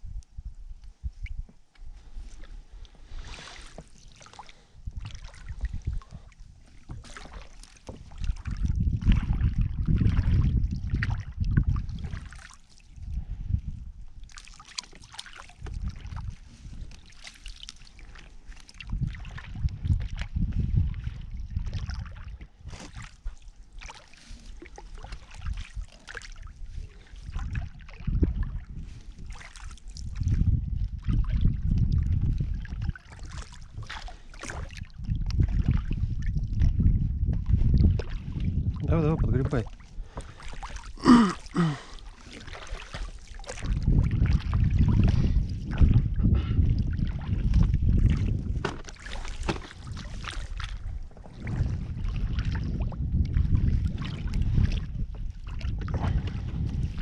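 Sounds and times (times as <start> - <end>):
wind rumbling on microphone: 0.0 - 57.0
water splashing against boat: 1.1 - 57.0.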